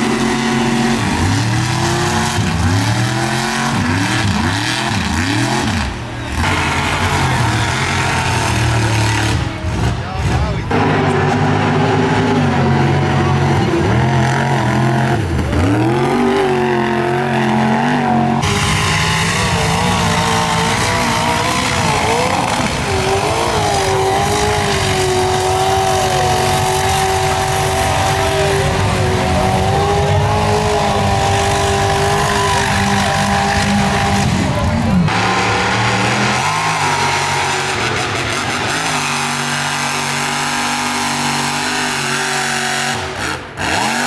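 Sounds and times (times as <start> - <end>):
truck engines revving: 0.0 - 44.0.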